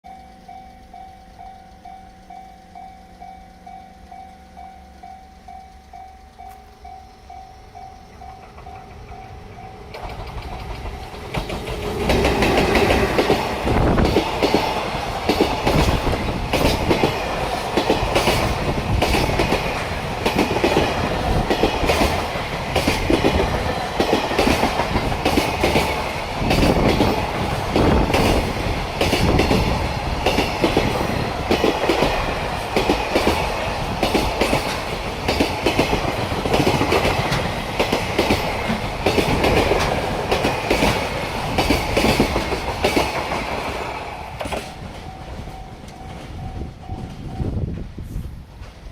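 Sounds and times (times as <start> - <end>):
train wheels clickety-clack: 0.2 - 48.9.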